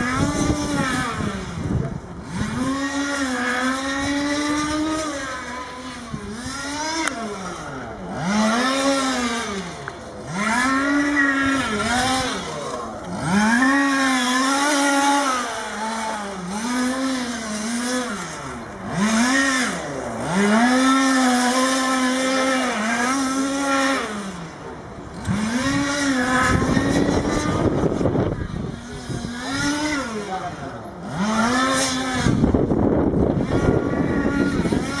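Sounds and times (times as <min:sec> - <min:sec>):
small engine revving whine: 0:00.0 - 0:35.0.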